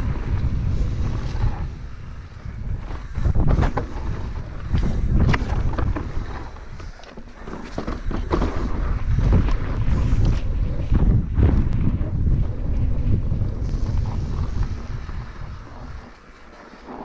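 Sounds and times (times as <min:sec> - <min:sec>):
wind buffeting microphone: 0:00.0 - 0:17.0
bike clacks and rattles: 0:02.4 - 0:17.0.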